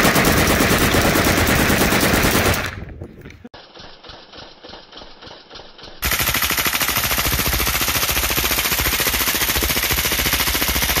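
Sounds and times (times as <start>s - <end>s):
automatic gunfire: 0.0s - 2.8s, 4.1s - 11.0s.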